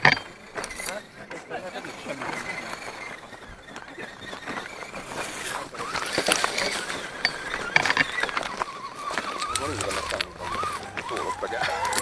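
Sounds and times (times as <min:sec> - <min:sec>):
small motor whirring: 0:00.0 - 0:12.0
stones clattering: 0:00.0 - 0:12.0.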